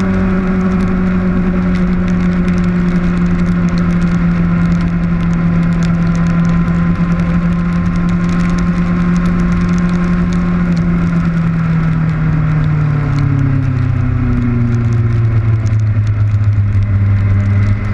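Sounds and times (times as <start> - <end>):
motorcycle engine running: 0.0 - 17.9
rain pattering on camera: 0.0 - 17.9.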